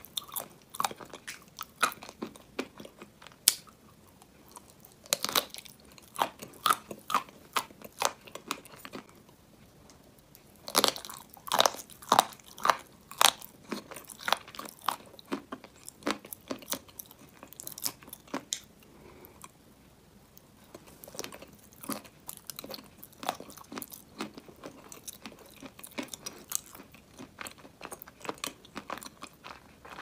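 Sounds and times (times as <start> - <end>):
crunchy snack being chewed: 0.0 - 9.3, 10.3 - 19.6, 20.6 - 30.0.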